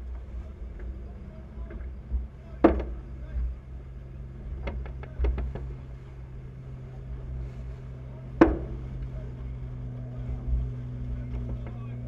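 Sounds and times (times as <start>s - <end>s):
low steady hum: 0.0s - 12.0s
wind and water rushing along hull: 0.0s - 12.0s.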